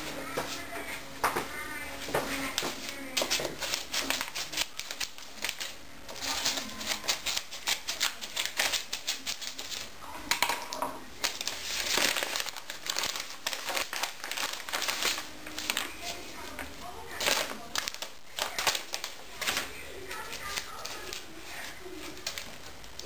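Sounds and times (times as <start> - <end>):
envelope crinkling: 2.5 - 10.4, 11.2 - 23.0.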